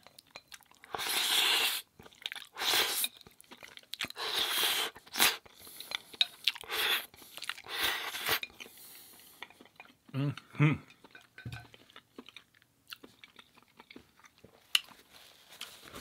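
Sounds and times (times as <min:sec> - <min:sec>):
person chewing and crunching food: 0:00.0 - 0:16.0.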